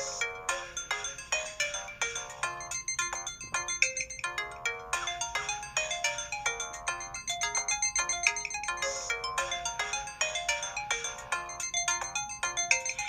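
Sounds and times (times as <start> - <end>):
phone ringtone melody: 0.0 - 13.0.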